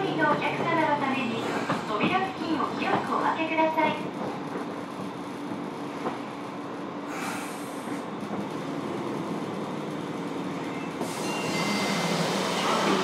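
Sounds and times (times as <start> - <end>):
subway car rumble and hum: 0.0 - 13.0.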